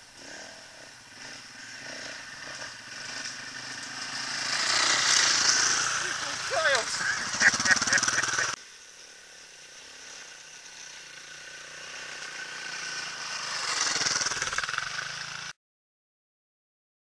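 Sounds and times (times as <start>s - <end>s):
dirt bike engine passing by: 0.0s - 15.6s.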